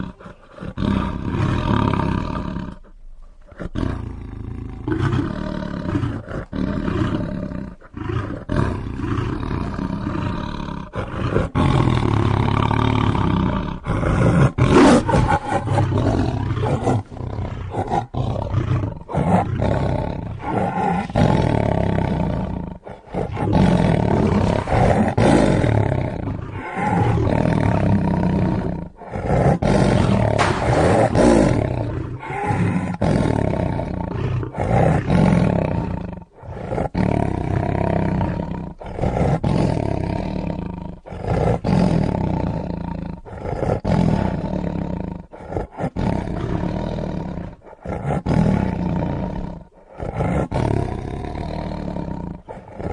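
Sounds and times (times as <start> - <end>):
lion roaring and growling: 0.0 - 52.9.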